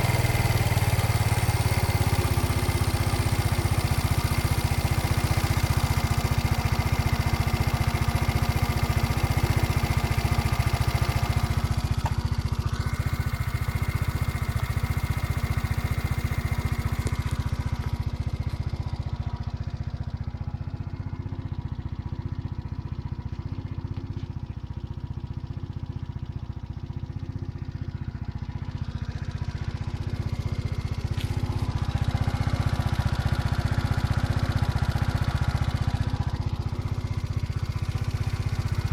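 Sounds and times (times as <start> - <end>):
scooter engine running: 0.0 - 38.9.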